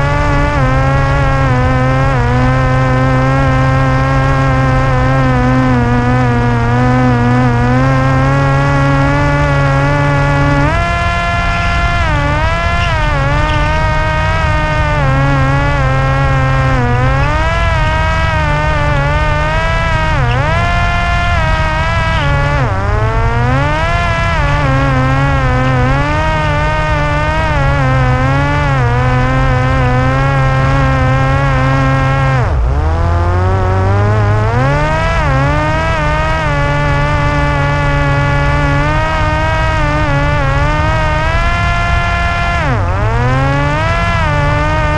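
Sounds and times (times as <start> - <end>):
drone propeller buzzing: 0.0 - 44.9.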